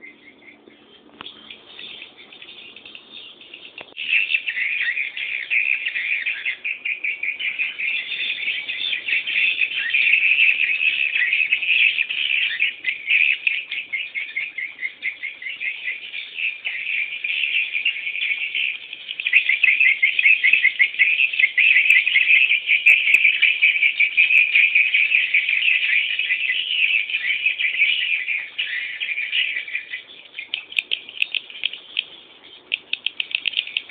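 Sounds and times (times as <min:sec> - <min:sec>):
chicks chirping rapidly: 0:00.0 - 0:33.9.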